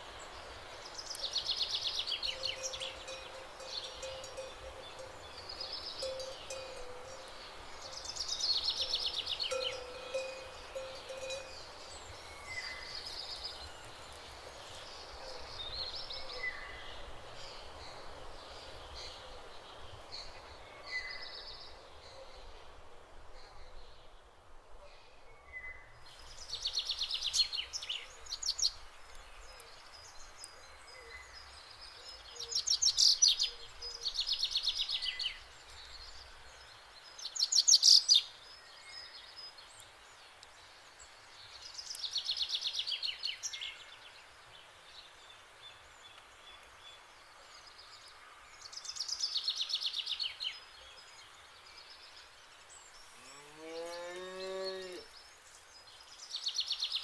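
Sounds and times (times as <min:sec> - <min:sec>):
faint outdoor background noise: 0:00.0 - 0:57.0.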